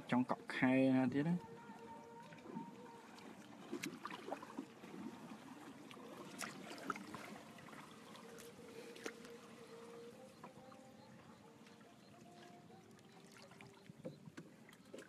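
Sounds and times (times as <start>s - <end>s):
water lapping and trickling: 0.0s - 15.0s.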